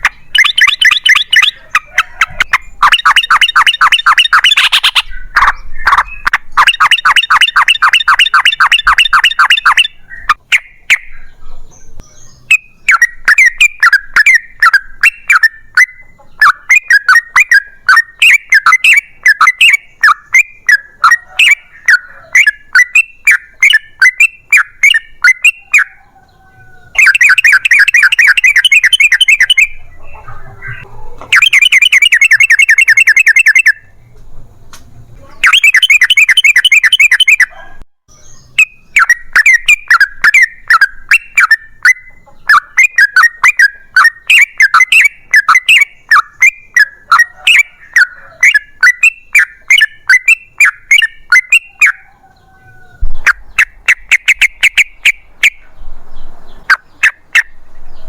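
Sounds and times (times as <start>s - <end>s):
bird rolling trills: 0.0s - 11.4s, 12.3s - 55.6s
bird chattering notes: 0.0s - 34.2s, 35.0s - 55.8s, 56.5s - 58.0s.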